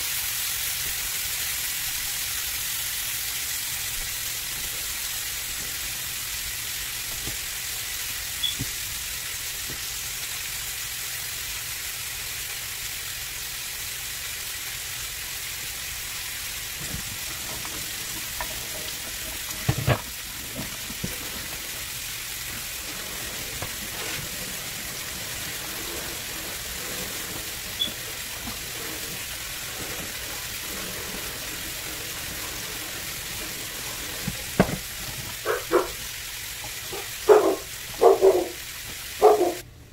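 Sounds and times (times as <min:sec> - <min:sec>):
steak sizzling in a skillet: 0:00.0 - 0:39.6.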